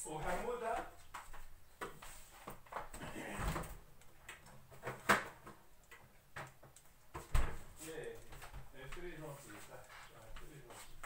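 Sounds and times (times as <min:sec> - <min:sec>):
things being moved about: 0:00.0 - 0:11.0.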